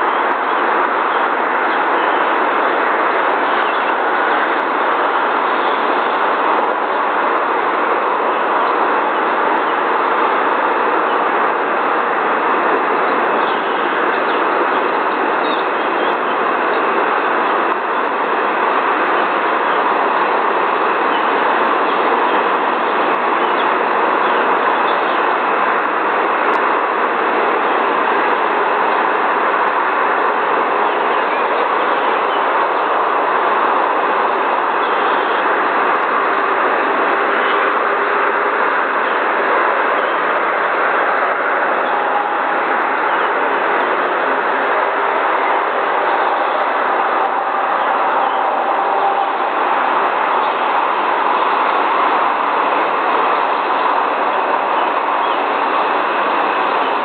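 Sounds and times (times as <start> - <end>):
loud steady rushing noise: 0.0 - 57.0.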